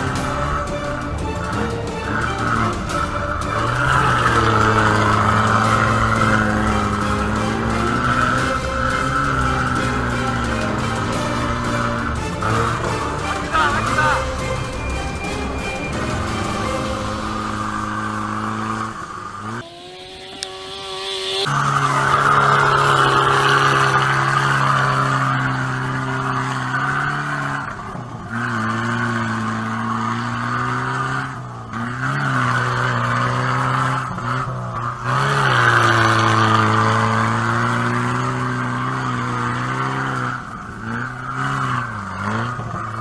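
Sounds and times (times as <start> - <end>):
jeep engine revving: 0.0 - 43.0.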